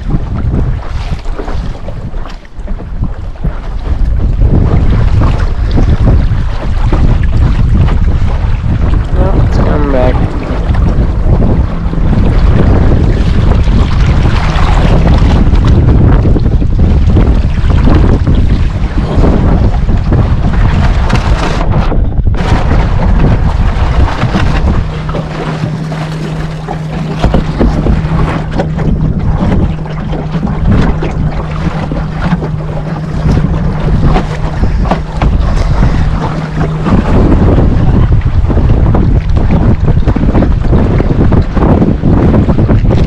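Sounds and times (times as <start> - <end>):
water splashing along hull: 0.0 - 43.0
wind buffeting microphone: 0.0 - 43.0
steady low hum: 3.3 - 42.7.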